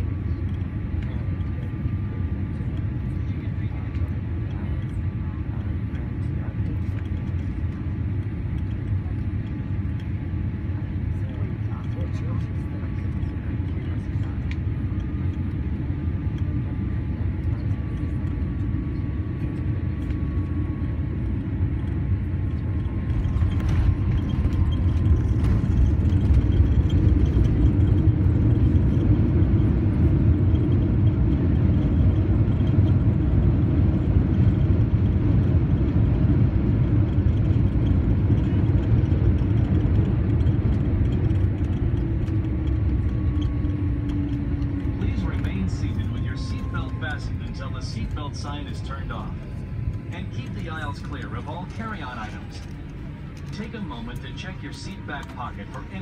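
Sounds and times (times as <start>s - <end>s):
airplane landing rumble: 0.0s - 56.0s.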